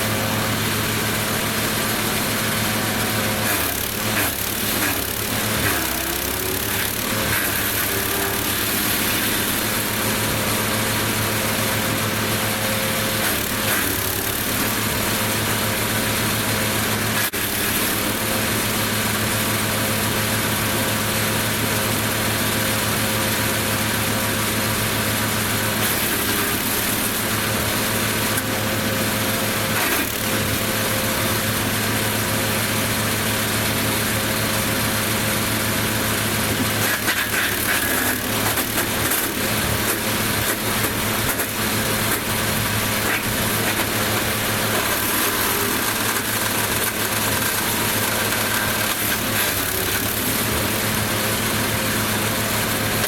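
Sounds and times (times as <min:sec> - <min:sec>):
wood chipper chipping branches: 0:00.0 - 0:53.0.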